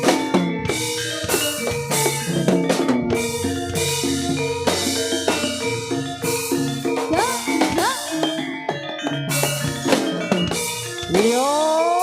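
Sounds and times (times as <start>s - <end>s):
drums beating busy rhythm: 0.0s - 12.0s
pitched percussion melody: 0.0s - 12.0s.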